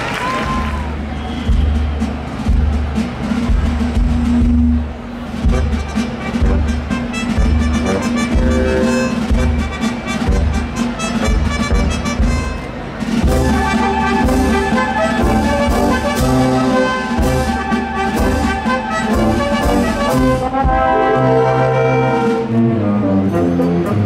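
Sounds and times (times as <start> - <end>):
brass band music: 1.0 - 24.0.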